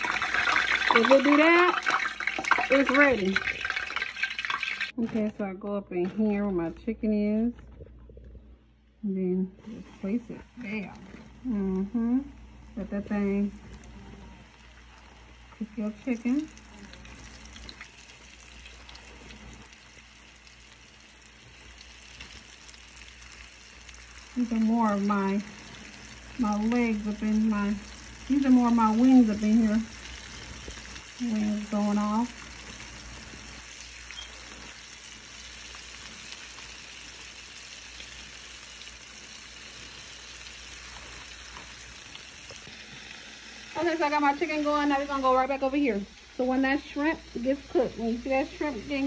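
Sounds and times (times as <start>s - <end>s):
chicken sizzling in oil: 0.0s - 5.0s, 12.3s - 49.0s.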